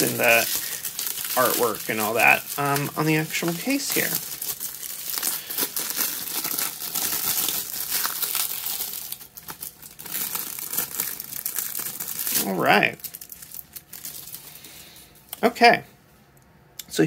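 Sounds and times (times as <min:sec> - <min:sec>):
shrink wrap crinkling: 0:00.0 - 0:15.3.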